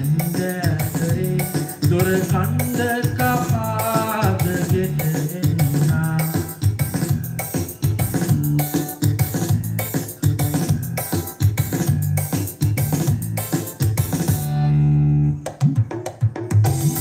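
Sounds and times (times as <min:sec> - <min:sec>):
song with beat and heavy bass: 0:00.0 - 0:17.0.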